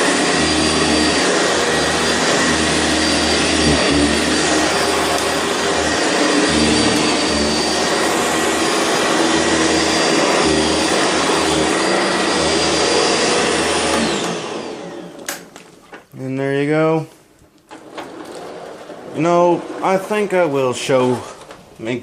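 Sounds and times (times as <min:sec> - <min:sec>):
vacuum cleaner on carpet: 0:00.0 - 0:15.5, 0:17.8 - 0:21.4.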